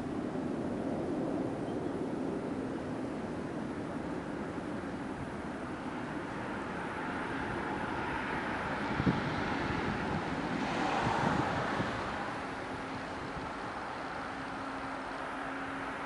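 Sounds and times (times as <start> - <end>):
turboprop engines droning: 0.0 - 16.0
wind noise on microphone: 0.0 - 16.0.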